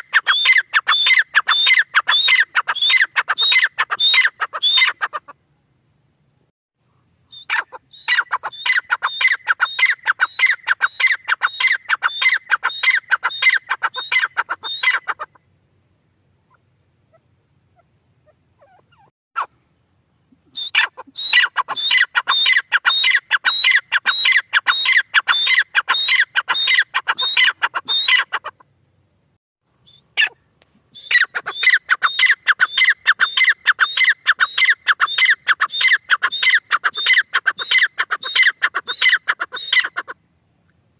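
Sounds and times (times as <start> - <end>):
francolin calling: 0.0 - 5.4, 6.9 - 15.6, 16.4 - 19.6, 20.4 - 28.6, 29.8 - 40.2.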